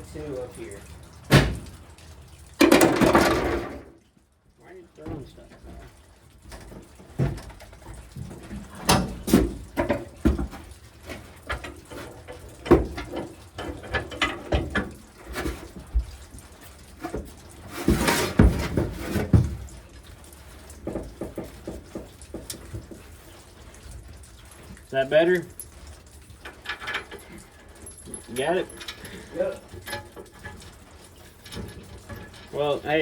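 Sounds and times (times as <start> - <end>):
metal clanks and knocks: 1.2 - 1.8, 2.5 - 4.0, 5.0 - 24.8, 25.5 - 33.0
metal scraping rattle: 2.6 - 4.0, 6.4 - 33.0.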